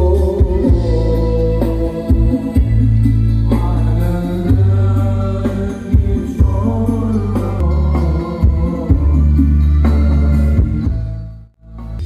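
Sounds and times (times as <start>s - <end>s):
heavy sustained bass notes: 0.0s - 12.0s.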